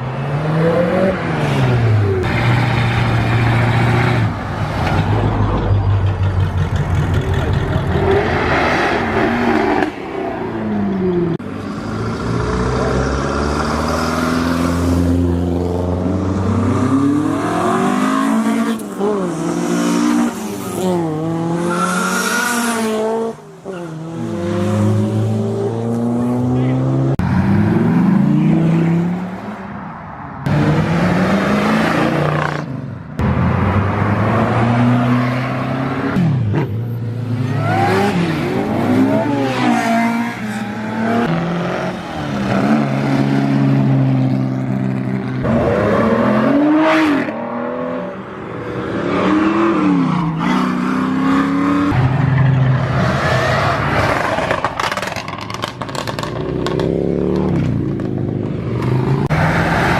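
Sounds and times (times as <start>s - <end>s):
performance cars revving and accelerating: 0.0s - 59.9s.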